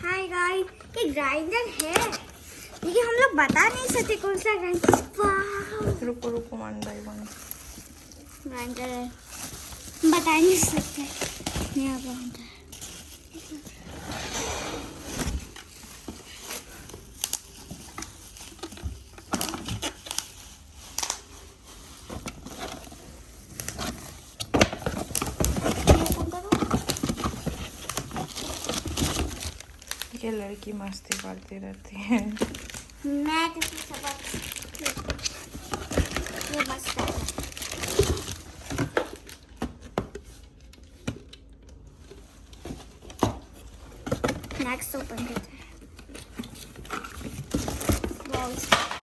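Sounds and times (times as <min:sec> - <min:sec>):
packaging rustling and crinkling: 0:00.0 - 0:49.0.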